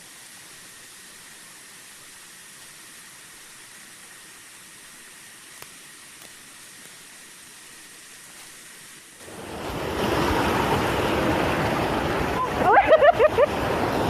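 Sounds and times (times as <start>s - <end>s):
rushing water hiss: 0.0s - 14.0s.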